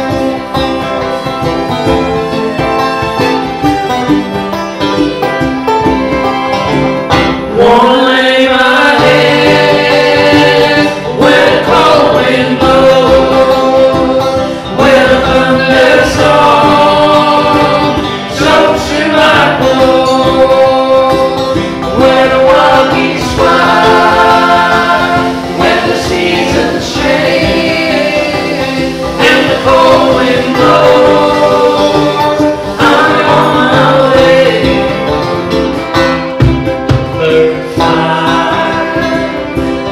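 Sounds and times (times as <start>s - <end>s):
acoustic guitar: 0.0s - 39.9s
country song with singing: 0.0s - 39.9s.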